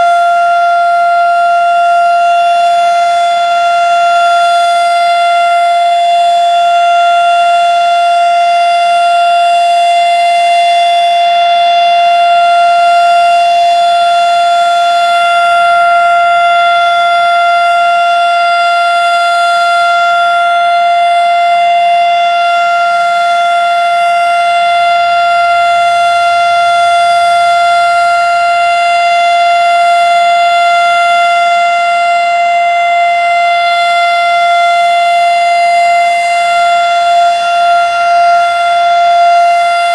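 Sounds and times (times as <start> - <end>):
fire siren steady tone: 0.0 - 39.9.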